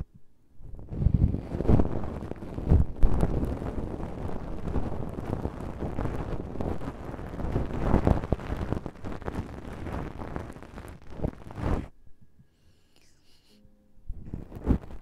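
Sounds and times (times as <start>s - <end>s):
ear pick scratching microphone: 0.6s - 11.9s, 14.1s - 15.0s.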